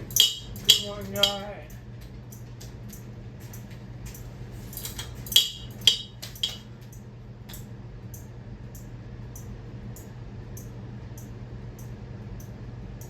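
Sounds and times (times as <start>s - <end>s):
ceiling fan motor humming: 0.0s - 13.0s
fan ticking: 0.0s - 13.0s.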